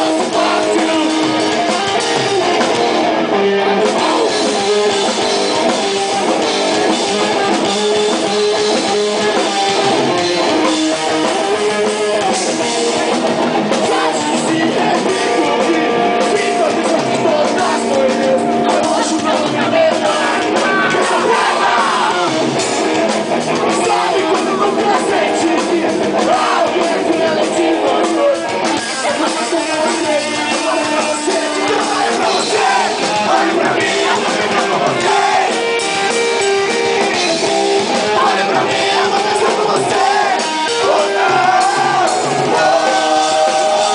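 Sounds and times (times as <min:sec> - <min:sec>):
person singing: 0:00.0 - 0:22.6, 0:23.6 - 0:43.9
drum kit: 0:00.0 - 0:43.9
electric guitars: 0:00.0 - 0:43.9.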